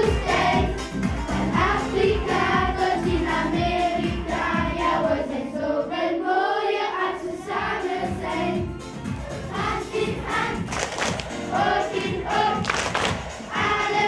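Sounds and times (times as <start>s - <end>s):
backing music with steady beat: 0.0s - 5.5s, 7.5s - 14.0s
group singing: 0.0s - 8.6s, 9.5s - 14.0s.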